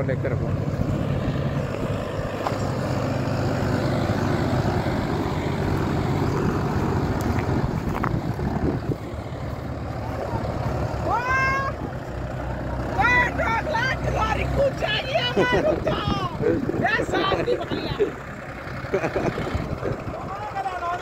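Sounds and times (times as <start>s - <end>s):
tractor diesel engine labouring: 0.0s - 21.0s.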